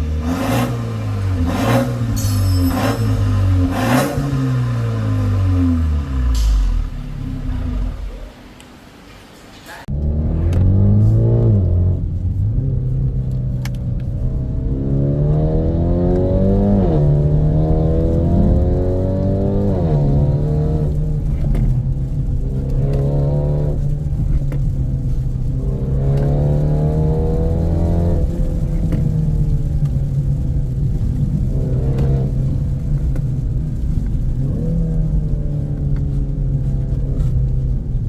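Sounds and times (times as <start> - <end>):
car engine idling and revving: 0.0 - 9.0, 9.8 - 38.0.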